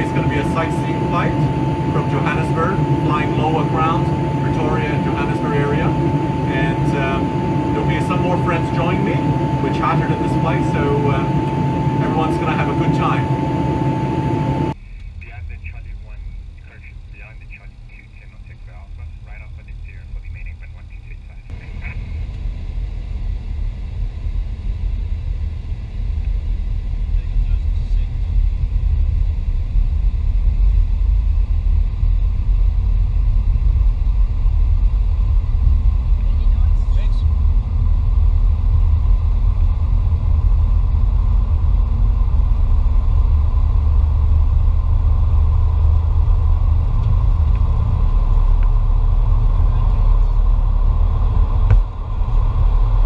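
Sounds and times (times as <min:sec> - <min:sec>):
faint steady whine: 0:00.0 - 0:53.0
jet engines and runway rumble: 0:00.0 - 0:53.0.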